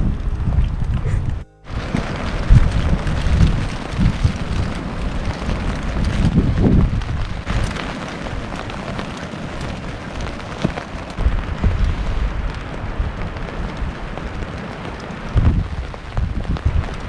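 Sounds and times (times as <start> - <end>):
rain falling: 0.0 - 17.0
wind gusting against microphone: 0.0 - 17.0.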